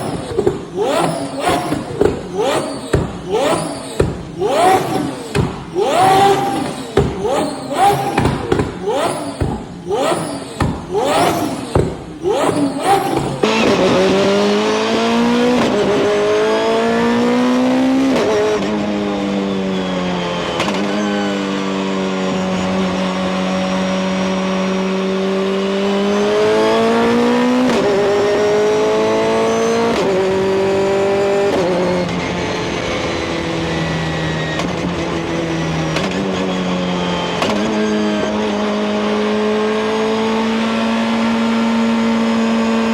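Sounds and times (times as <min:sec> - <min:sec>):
car engine revving and accelerating: 0:00.0 - 0:42.9.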